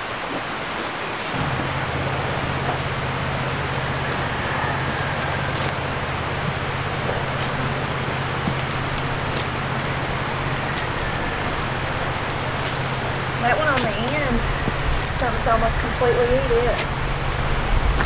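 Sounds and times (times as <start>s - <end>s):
low motor-like hum: 1.3s - 18.0s.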